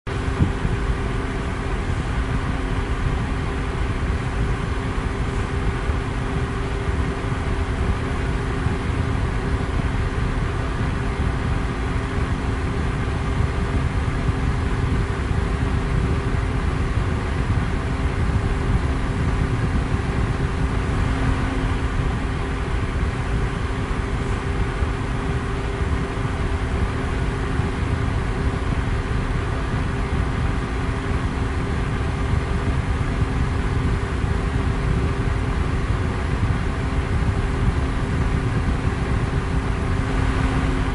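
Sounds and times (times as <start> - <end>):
faint motor hum: 0.0 - 40.9
fan running: 0.0 - 40.9.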